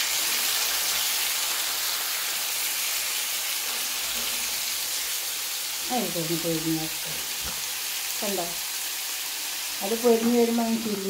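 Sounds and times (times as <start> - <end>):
squid frying in oil: 0.0 - 11.0.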